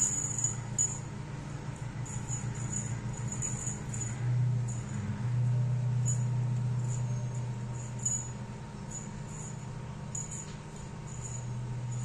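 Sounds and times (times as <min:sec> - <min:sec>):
small bell jingling: 0:00.0 - 0:01.2, 0:01.8 - 0:12.0.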